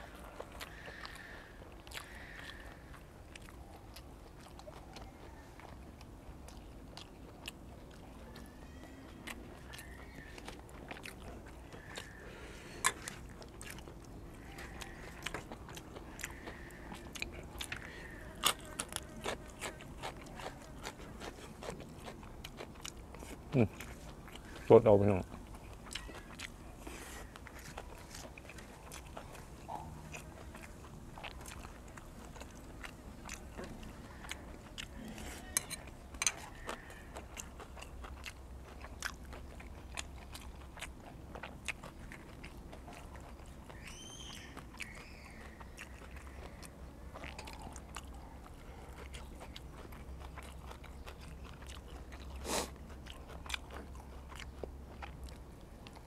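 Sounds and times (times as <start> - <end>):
man chewing and crunching: 0.0 - 56.0.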